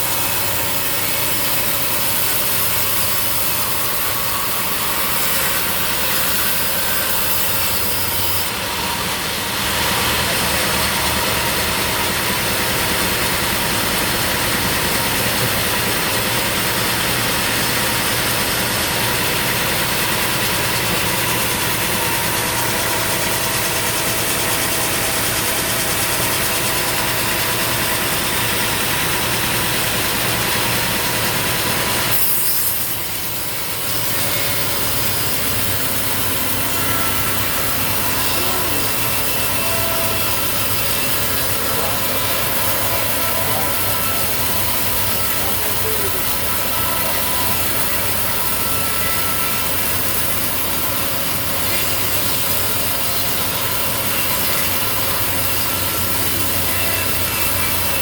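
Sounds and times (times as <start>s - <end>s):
mill machinery running: 0.0s - 58.0s
sawmill blade cutting log: 0.0s - 58.0s.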